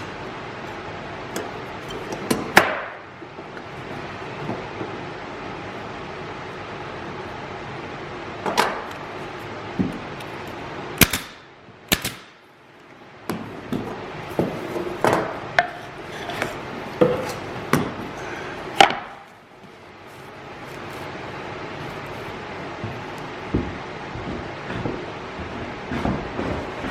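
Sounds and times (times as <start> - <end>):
steady background hiss: 0.0 - 26.9.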